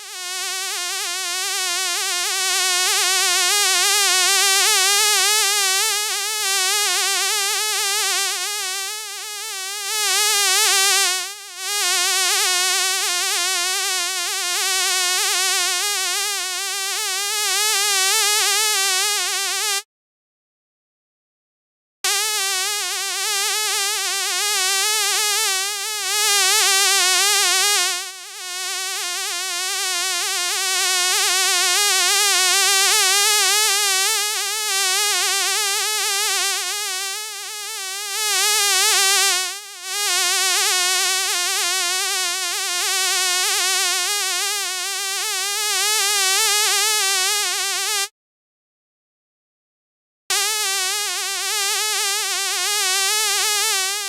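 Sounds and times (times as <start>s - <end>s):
fly buzzing: 4.6s - 19.8s, 22.1s - 31.6s, 32.2s - 48.1s, 50.3s - 54.0s.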